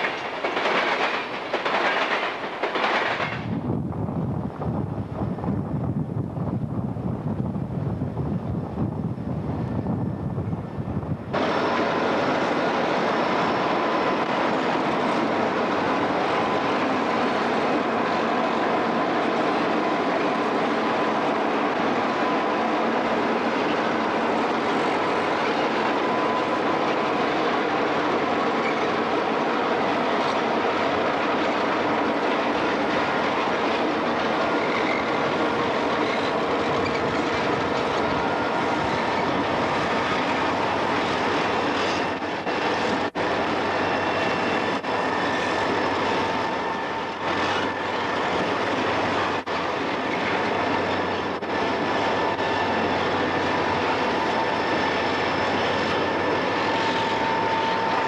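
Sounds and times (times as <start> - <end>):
diesel freight locomotives passing: 0.0 - 58.0.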